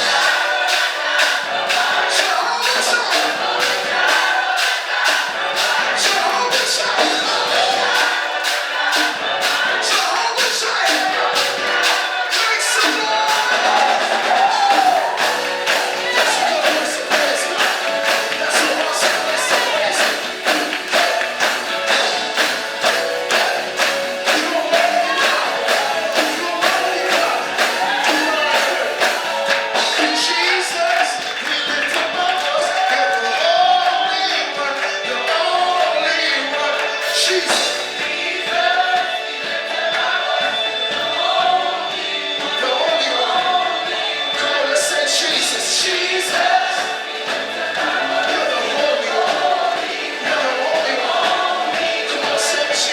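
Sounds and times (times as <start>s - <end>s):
quick percussive beat: 0.0s - 52.9s
singing with choir: 0.0s - 52.9s.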